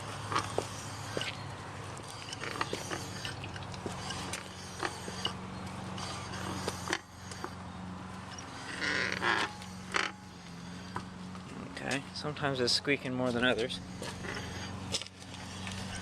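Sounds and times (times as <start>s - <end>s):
car wheel squeaking and creaking: 0.0s - 12.0s, 13.4s - 16.0s
steady low hum: 0.0s - 16.0s.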